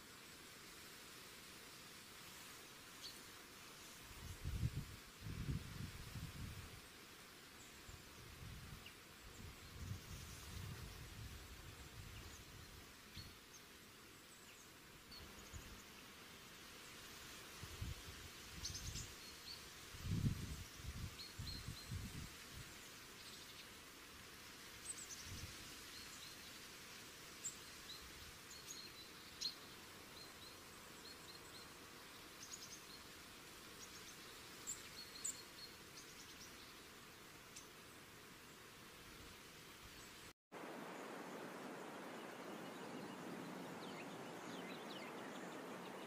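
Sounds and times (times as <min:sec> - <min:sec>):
steady hiss: 0:00.0 - 0:46.0.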